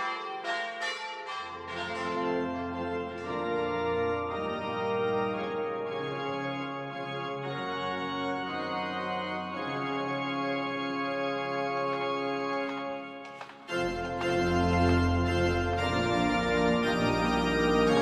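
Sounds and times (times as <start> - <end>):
organ playing sustained chords: 0.0 - 18.0.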